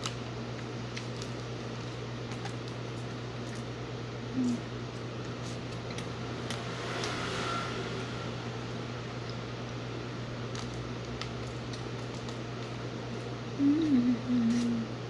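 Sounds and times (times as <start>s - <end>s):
mechanical hum with airy hiss: 0.0s - 15.0s.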